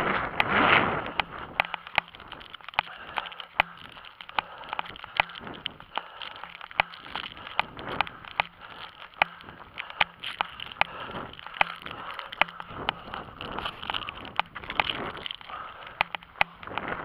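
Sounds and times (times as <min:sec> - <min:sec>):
footsteps running on asphalt: 0:00.3 - 0:17.0.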